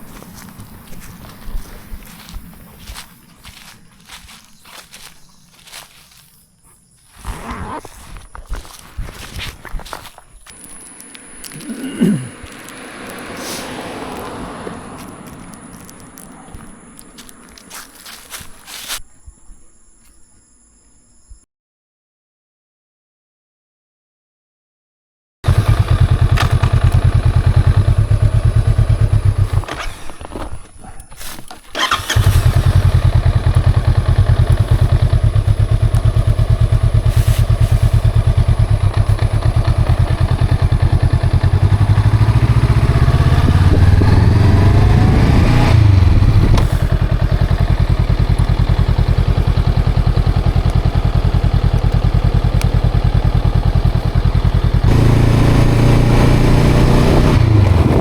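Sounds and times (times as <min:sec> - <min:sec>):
motorcycle engine idling and revving: 0:00.0 - 0:19.0, 0:25.4 - 0:58.0.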